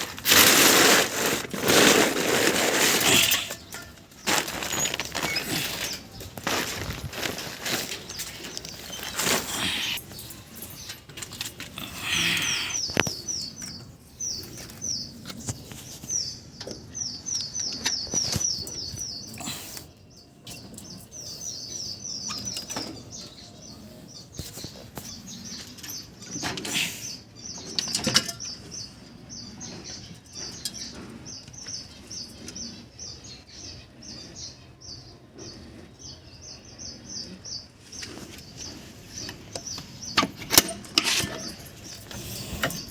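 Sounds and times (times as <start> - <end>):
finches chirping: 7.7 - 42.9.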